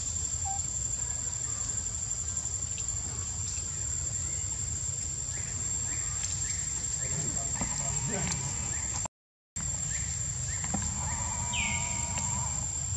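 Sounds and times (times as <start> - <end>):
insects droning: 0.0 - 12.9.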